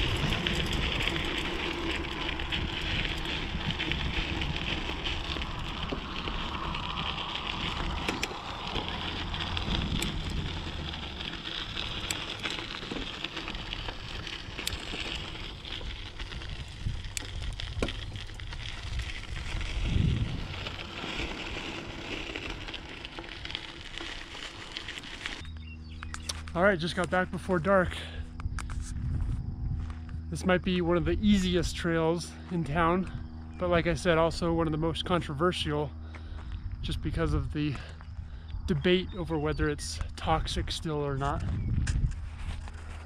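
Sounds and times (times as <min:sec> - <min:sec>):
bike clicks and rattles: 0:00.0 - 0:43.0
bike tyres crunching on gravel: 0:00.0 - 0:43.0
wind rumbling on microphone: 0:00.0 - 0:43.0.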